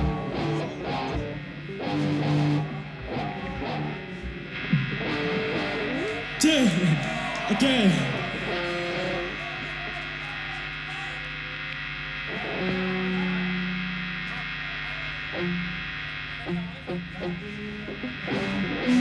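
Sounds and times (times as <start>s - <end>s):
stage amplifiers humming: 0.0s - 19.0s.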